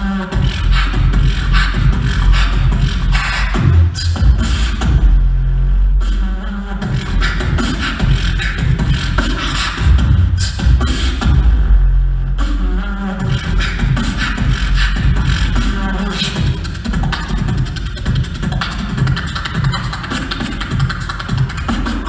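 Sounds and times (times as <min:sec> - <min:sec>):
beatboxing into a microphone: 0:00.0 - 0:22.0.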